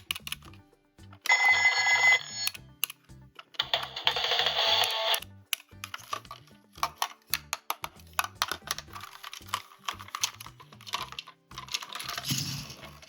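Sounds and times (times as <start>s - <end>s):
plastic toy pieces clicking: 0.0s - 0.6s, 2.3s - 13.0s
background music: 0.0s - 13.0s.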